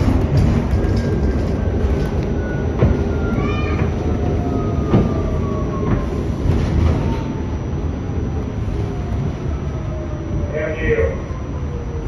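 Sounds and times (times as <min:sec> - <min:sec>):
traction motors whining: 0:00.0 - 0:12.0
wheel-on-rail rumble: 0:00.0 - 0:12.0.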